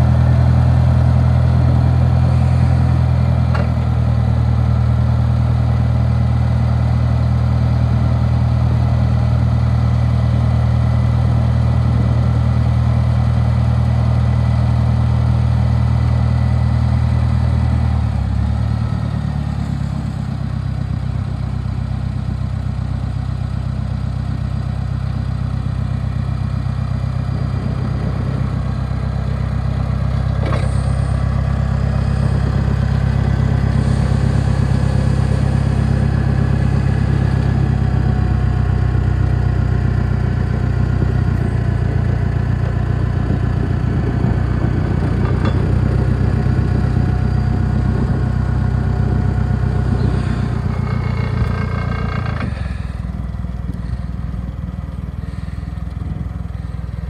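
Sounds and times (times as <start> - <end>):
forklift engine idling: 0.0 - 57.0.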